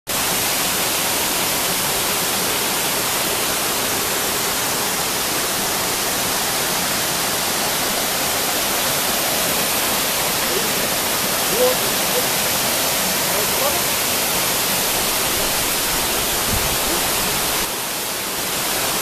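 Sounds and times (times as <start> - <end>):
waterfall rushing onto rocks: 0.1 - 19.0.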